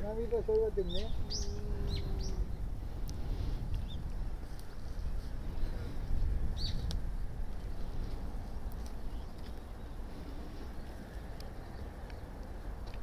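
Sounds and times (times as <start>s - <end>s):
small birds chirping: 0.0s - 7.0s, 7.6s - 13.0s
steady low rumble: 0.0s - 13.0s.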